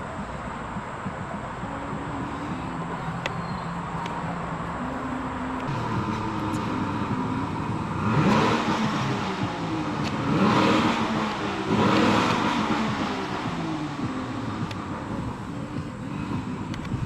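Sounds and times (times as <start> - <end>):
low engine hum: 0.0 - 17.0
vehicles passing: 0.0 - 17.0.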